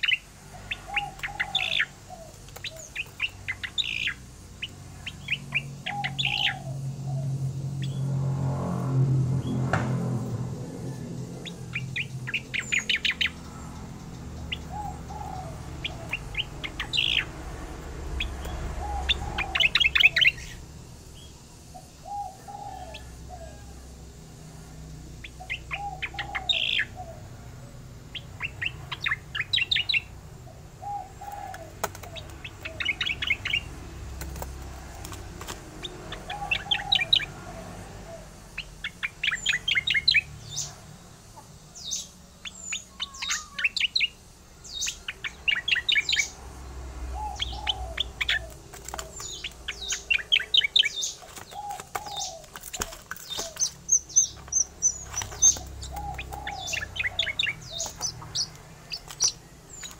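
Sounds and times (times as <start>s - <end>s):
bird singing rolling song: 0.0s - 59.9s.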